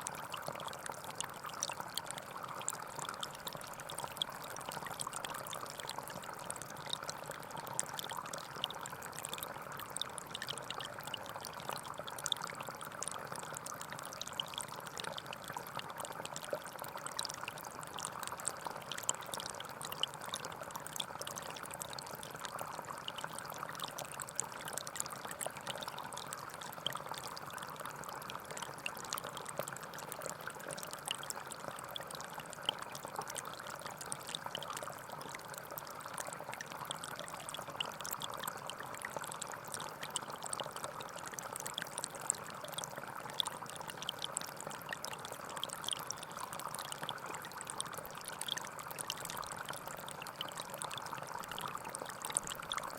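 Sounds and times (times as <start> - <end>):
stream flowing: 0.0 - 52.9.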